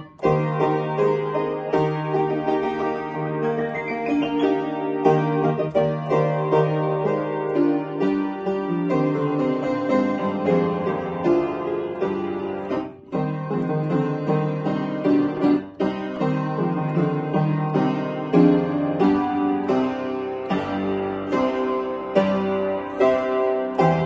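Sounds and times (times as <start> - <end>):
upright piano playing: 0.0 - 24.0.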